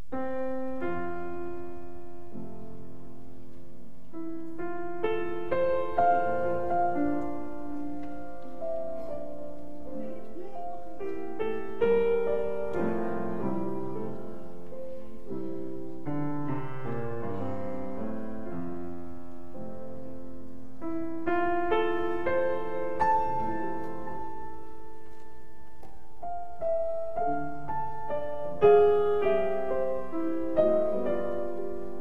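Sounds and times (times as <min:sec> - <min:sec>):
gentle piano melody: 0:00.0 - 0:32.0.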